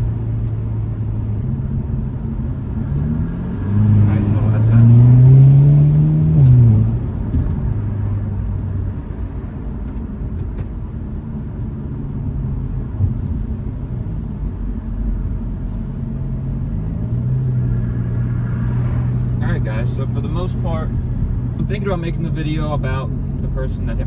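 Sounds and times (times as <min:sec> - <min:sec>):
car engine revving: 0:00.0 - 0:09.6, 0:12.1 - 0:24.0
road and wind rumble: 0:00.0 - 0:24.0.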